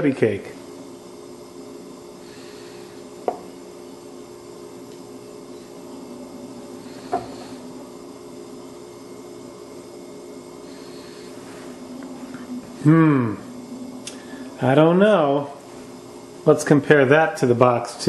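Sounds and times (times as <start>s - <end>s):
low hum: 0.5s - 16.5s.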